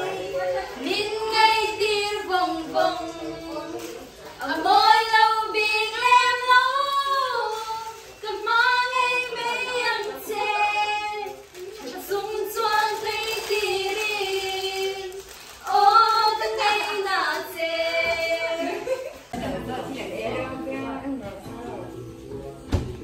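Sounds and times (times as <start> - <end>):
young women singing together: 0.0 - 21.5.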